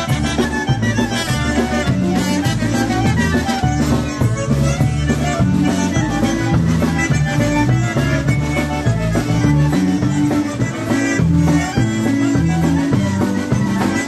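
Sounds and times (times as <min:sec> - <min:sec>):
concertina melody: 0:00.0 - 0:14.0
polka band playing: 0:00.0 - 0:14.0.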